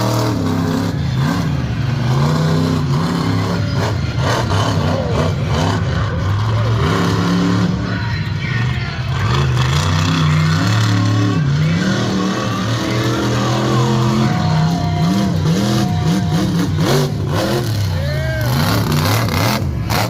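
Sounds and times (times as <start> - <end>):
large vehicle engine revving: 0.0 - 20.0.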